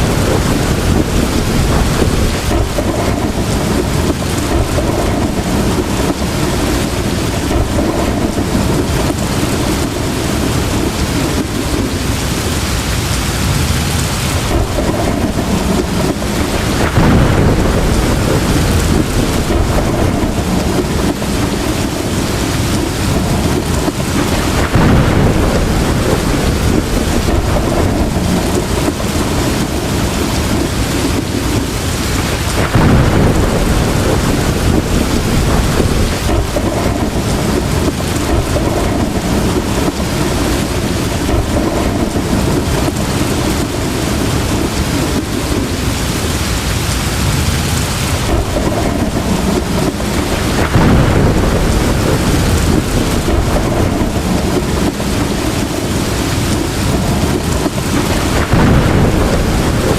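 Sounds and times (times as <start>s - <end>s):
heavy rain falling: 0.0s - 59.9s
thunder rolling: 0.0s - 59.9s.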